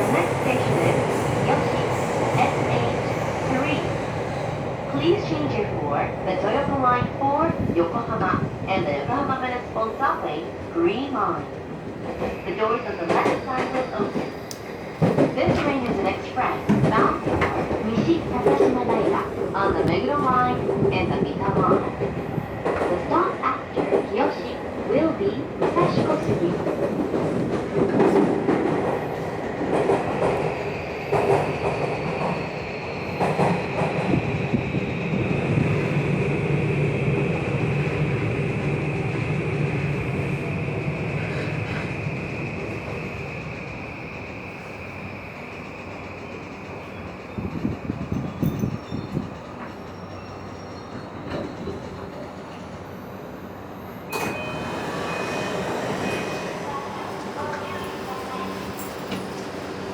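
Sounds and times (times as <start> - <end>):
train cabin rumble: 0.0 - 52.8.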